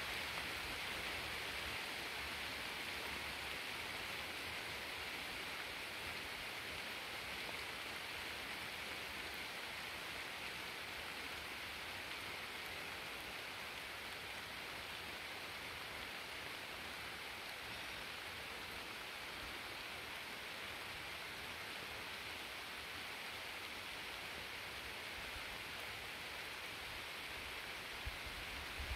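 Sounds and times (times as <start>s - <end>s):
light rain falling: 0.0s - 28.9s.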